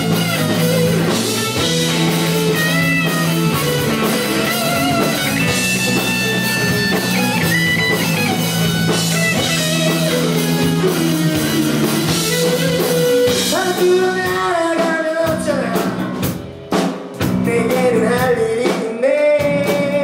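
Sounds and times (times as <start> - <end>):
electric guitar lead: 0.0 - 17.8
bass guitar: 0.0 - 18.6, 19.4 - 20.0
drum kit: 0.0 - 20.0.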